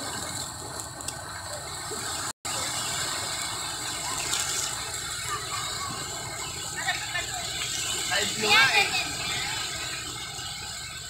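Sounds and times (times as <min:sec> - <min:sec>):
surf waves washing onto beach: 0:00.0 - 0:11.0.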